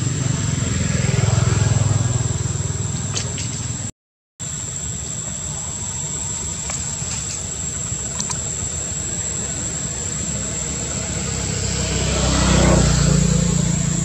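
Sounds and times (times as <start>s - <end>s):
low engine-like rumble: 0.0s - 14.0s.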